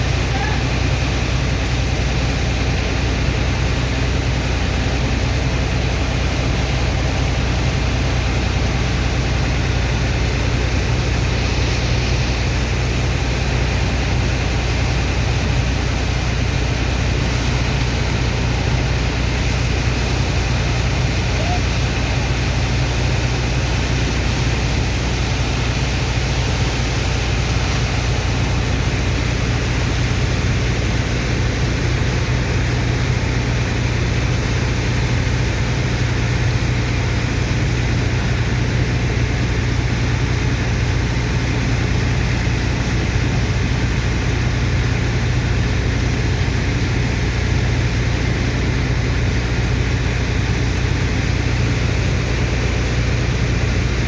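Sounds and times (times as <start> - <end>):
heavy engine drone: 0.0 - 54.0
water pump rushing: 0.0 - 54.0.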